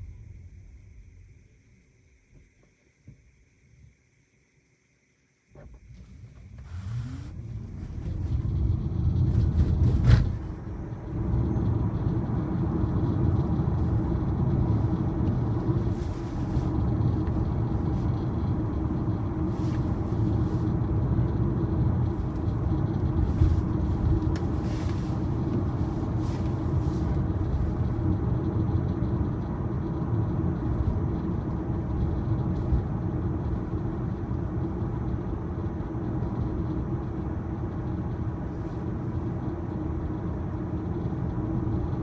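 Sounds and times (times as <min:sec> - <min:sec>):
road and tyre noise in car: 0:00.0 - 0:42.0
electric car whine: 0:05.6 - 0:42.0.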